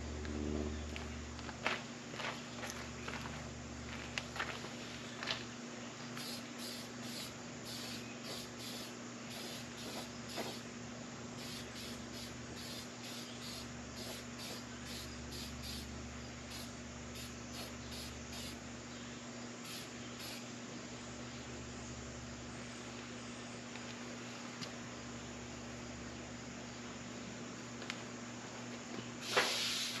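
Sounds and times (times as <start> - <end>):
low steady hum: 0.0 - 29.2
insect chirping: 0.0 - 30.0.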